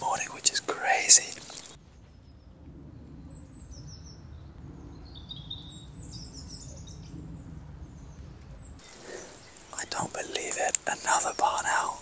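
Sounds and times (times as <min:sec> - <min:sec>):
low steady background rumble: 0:00.0 - 0:12.0
small birds chirping: 0:00.0 - 0:12.0.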